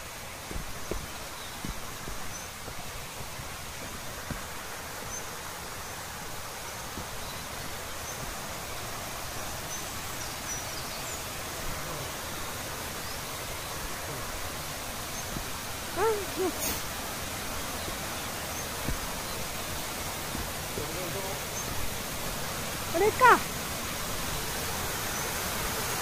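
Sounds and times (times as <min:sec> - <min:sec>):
stream and waterfall rushing: 0:00.0 - 0:26.0.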